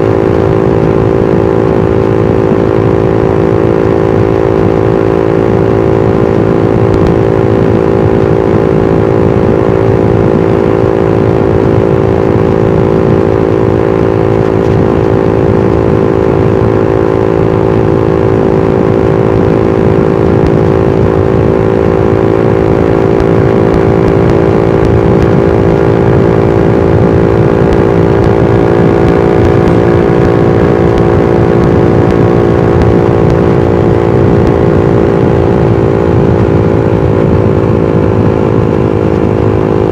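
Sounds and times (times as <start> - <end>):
constant rushing noise: 0.0 - 39.9
motorcycle engine cruising: 0.0 - 39.9.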